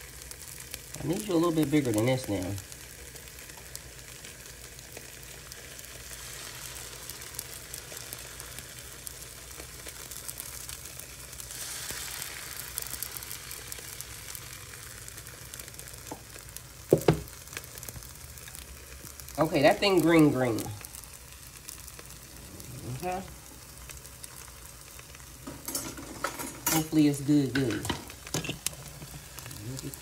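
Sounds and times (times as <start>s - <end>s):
batter sizzling in oil: 0.0s - 30.0s.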